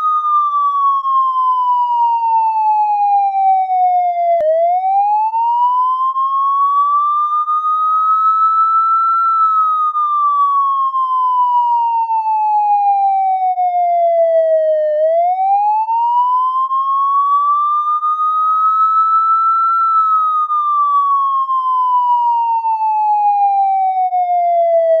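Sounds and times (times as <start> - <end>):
police siren wailing: 0.0 - 25.0.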